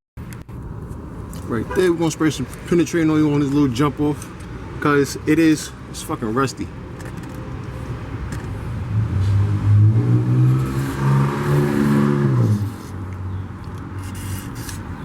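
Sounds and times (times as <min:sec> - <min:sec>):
vehicle engine humming: 0:00.2 - 0:15.0.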